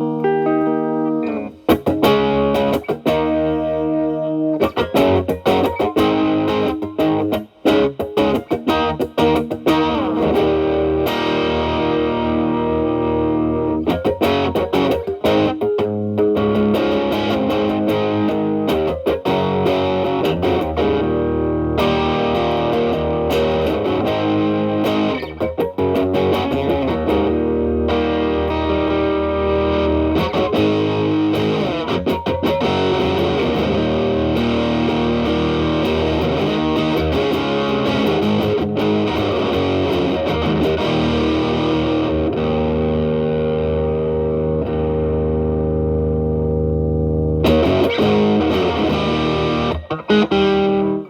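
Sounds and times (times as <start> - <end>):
overdriven electric guitar: 0.0 - 51.0.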